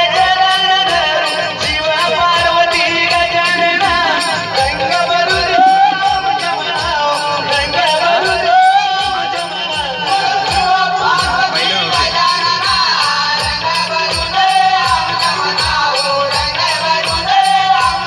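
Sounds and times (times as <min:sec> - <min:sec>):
voices singing: 0:00.0 - 0:18.0.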